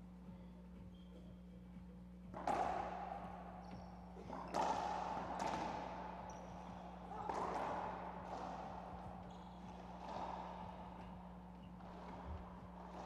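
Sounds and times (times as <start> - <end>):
racquet striking ball: 2.3 - 13.0.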